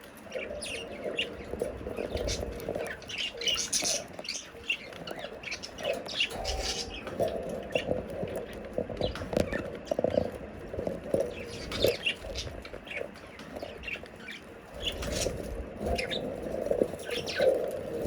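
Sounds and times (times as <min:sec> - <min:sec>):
budgerigars chattering: 0:00.2 - 0:10.4, 0:11.0 - 0:18.0
budgerigars chirping: 0:00.2 - 0:10.4, 0:11.1 - 0:18.0.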